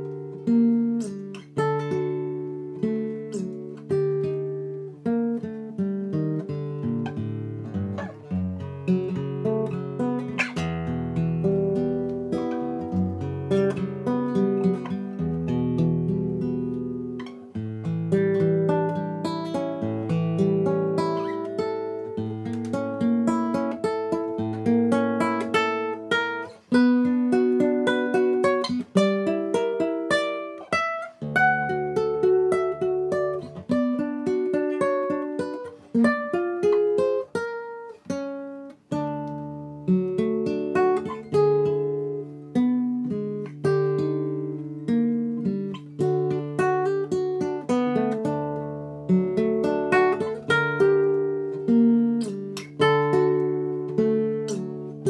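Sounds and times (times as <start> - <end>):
classical guitar fingerstyle: 0.0 - 55.0.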